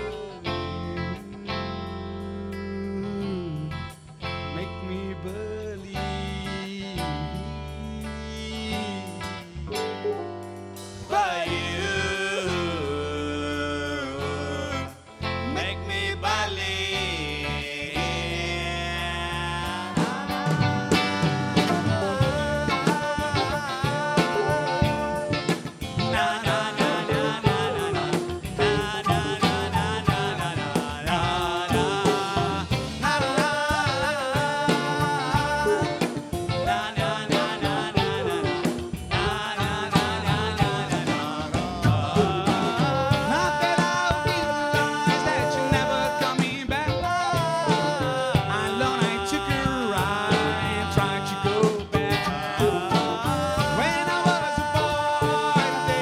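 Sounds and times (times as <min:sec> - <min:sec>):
electric guitar lead melody: 0:00.0 - 0:13.2, 0:19.8 - 0:56.0
bass guitar: 0:00.0 - 0:56.0
live band playing: 0:00.0 - 0:56.0
two people singing: 0:00.0 - 0:56.0
drums: 0:03.4 - 0:56.0.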